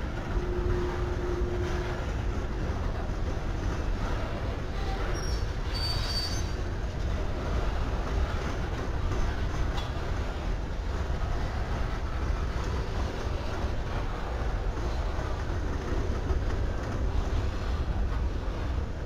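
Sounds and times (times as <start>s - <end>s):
freight cars rolling on rails: 0.0s - 19.0s.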